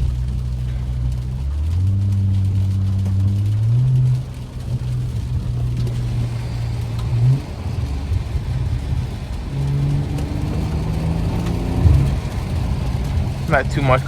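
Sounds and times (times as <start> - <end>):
car engine droning while driving: 0.0 - 14.0.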